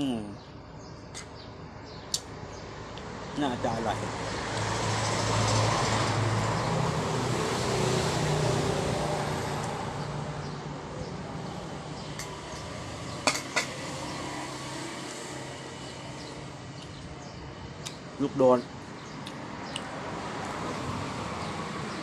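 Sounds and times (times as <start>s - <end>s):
vehicle passing by: 2.6s - 17.4s, 18.3s - 22.0s.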